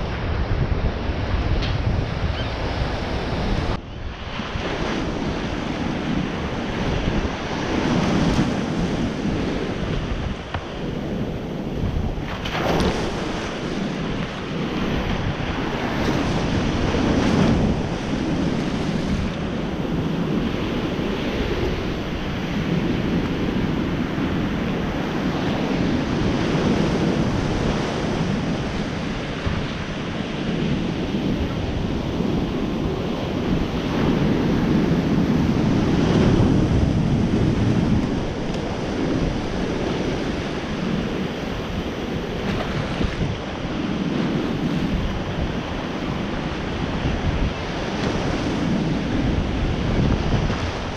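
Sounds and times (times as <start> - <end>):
sea: 0.0 - 50.9
wind buffeting microphone: 0.0 - 50.9.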